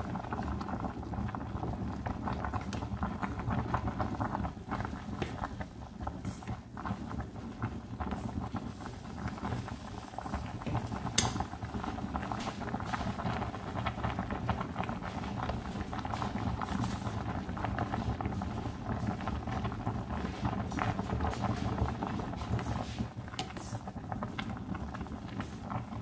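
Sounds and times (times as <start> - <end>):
water boiling in a pot: 0.0 - 26.0.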